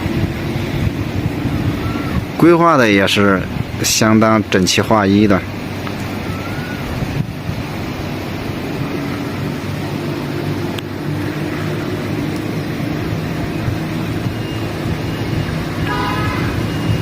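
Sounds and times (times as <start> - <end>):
low motor hum: 0.0 - 17.0
wind noise on microphone: 0.0 - 17.0.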